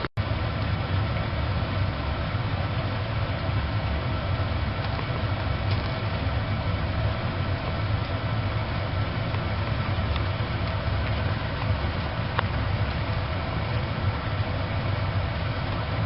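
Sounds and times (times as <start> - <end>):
faint fire crackles: 0.0 - 16.0
wood stove fire rumbling: 0.0 - 16.0.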